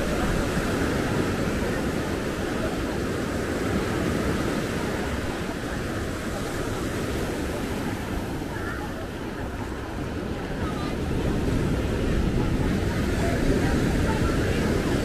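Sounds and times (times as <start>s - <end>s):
surf: 0.0s - 15.0s.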